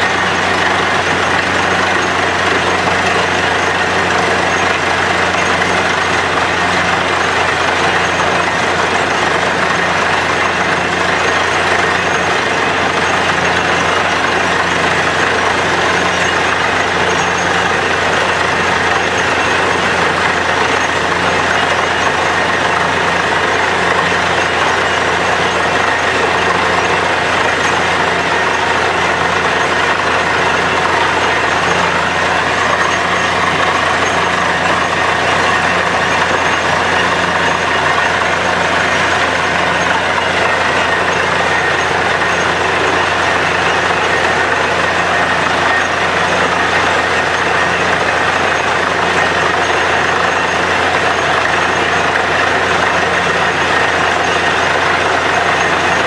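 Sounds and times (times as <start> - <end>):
drilling rig roaring: 0.0 - 56.0
water and rock cuttings blasting: 0.0 - 56.0.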